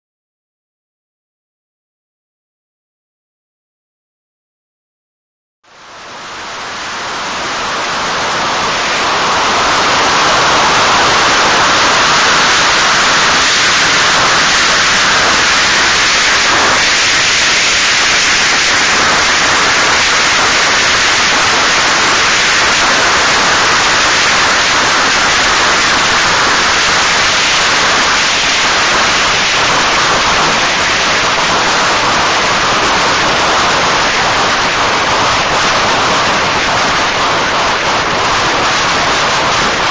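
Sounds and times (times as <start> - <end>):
loud wind roar on microphone: 5.7 - 39.9.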